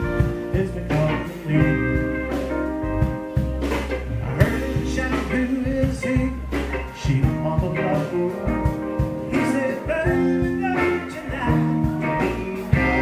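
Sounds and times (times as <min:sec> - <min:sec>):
drum kit steady beat: 0:00.0 - 0:13.0
electric guitars: 0:00.0 - 0:13.0.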